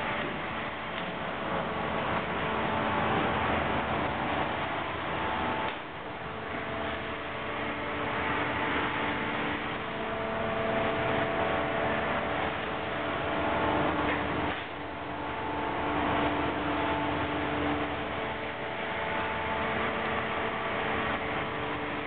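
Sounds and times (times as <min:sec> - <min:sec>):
machinery hum with steady tones: 0:00.0 - 0:22.0.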